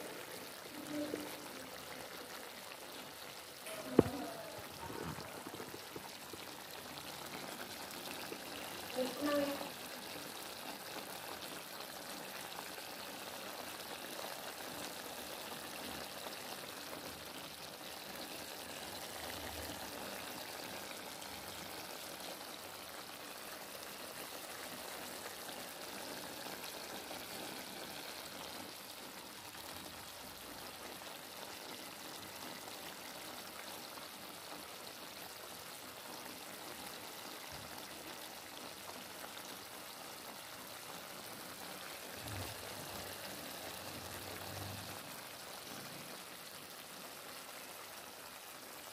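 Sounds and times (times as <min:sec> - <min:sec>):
stew bubbling and sizzling: 0:00.0 - 0:48.9.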